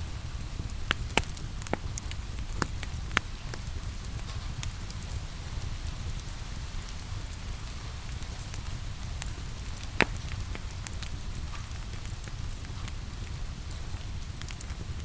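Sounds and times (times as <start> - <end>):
log fire crackling: 0.0 - 15.0
steady falling rain: 0.0 - 15.0.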